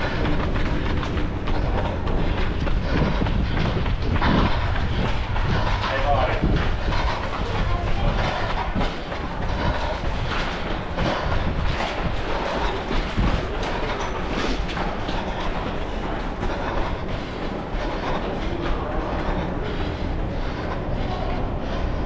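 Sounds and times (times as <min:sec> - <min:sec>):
running footsteps on hard floor: 0:00.0 - 0:22.0
steady background din: 0:00.0 - 0:22.0.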